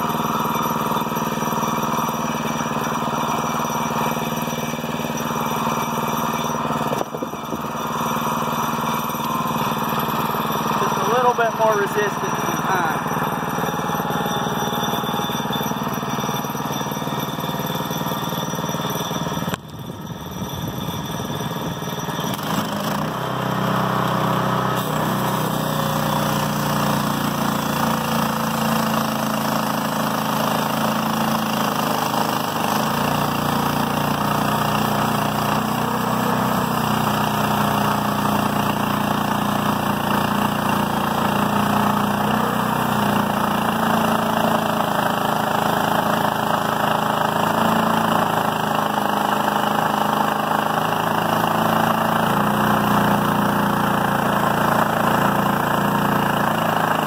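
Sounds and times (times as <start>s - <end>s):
sawmill engine droning: 0.0s - 57.0s.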